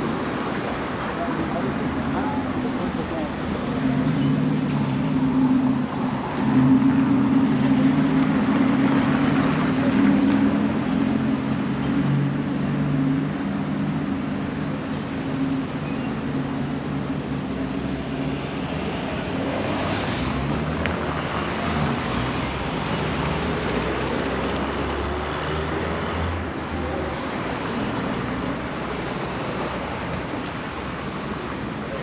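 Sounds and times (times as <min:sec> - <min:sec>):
vehicles passing close by: 0:00.0 - 0:32.0.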